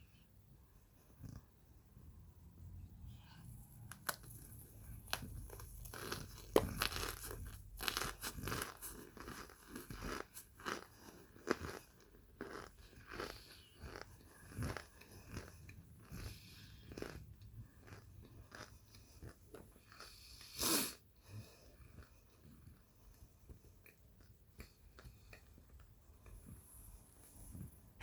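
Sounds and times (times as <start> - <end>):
crunching and chewing: 3.9 - 27.6.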